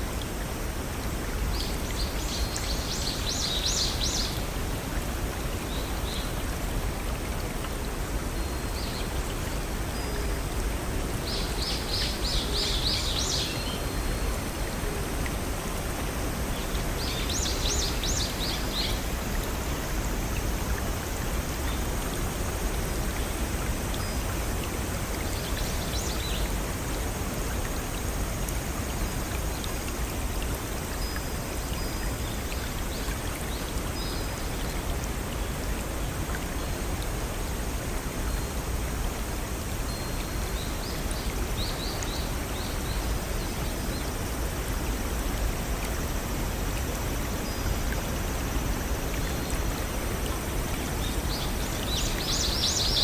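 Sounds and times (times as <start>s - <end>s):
waterfall and brook rushing: 0.0s - 53.0s.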